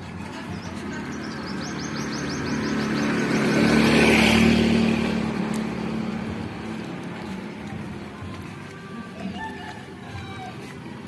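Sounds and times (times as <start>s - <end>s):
motorcycle passing: 0.0s - 11.0s.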